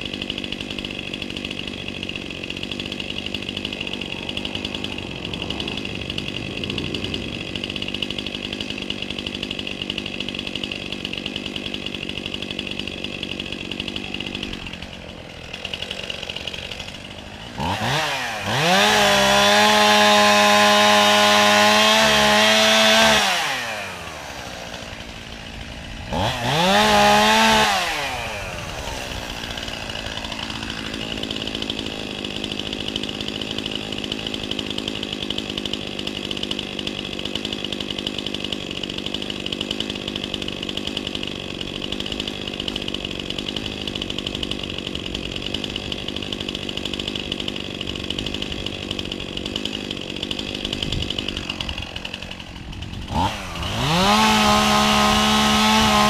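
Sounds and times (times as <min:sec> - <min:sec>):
chainsaw engine revving and idling: 0:00.0 - 0:56.0.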